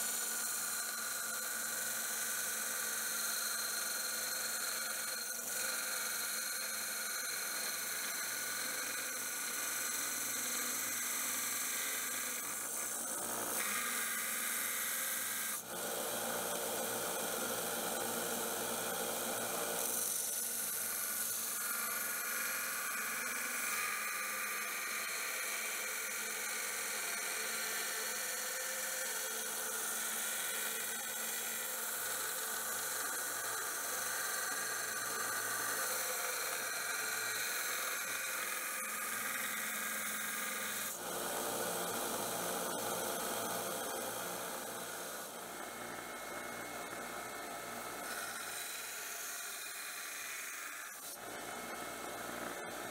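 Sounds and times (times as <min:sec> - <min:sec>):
belt sander grinding steel blade: 0:00.0 - 0:52.9.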